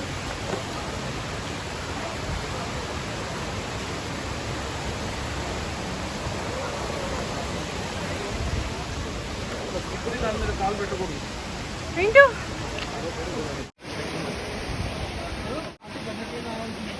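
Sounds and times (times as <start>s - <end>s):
waterfall roaring: 0.0s - 16.9s.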